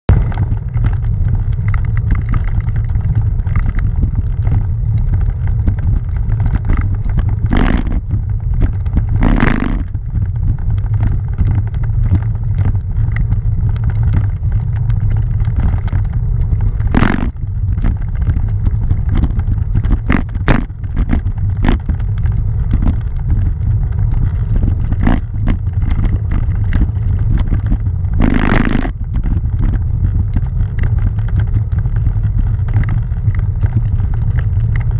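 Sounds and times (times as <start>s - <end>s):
bicycle tyres rumbling on cobblestones: 0.1s - 34.9s
rushes of noise: 0.1s - 34.9s.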